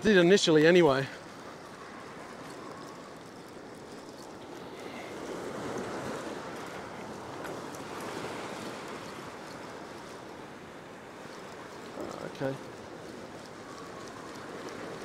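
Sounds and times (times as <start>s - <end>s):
surf rushing against rocks: 0.0s - 15.0s.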